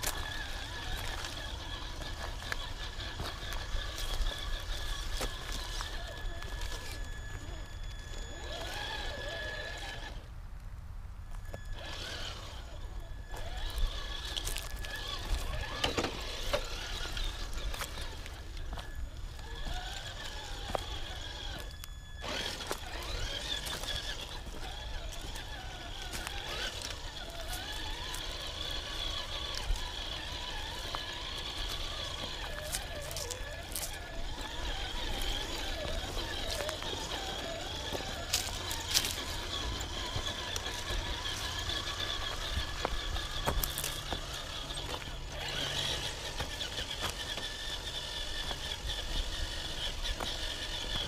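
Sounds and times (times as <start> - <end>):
electric motor whining: 0.0 - 10.3, 11.3 - 51.0
high electronic whine: 0.0 - 10.3, 11.2 - 51.0.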